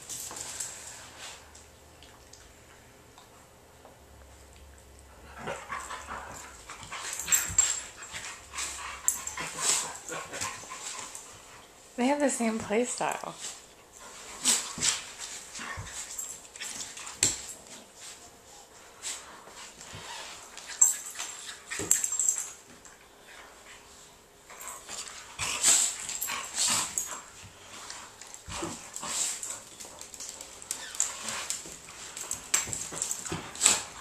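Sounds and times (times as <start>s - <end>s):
dogs scuffling on wooden floor: 0.0s - 1.6s, 5.4s - 11.7s, 12.3s - 34.0s.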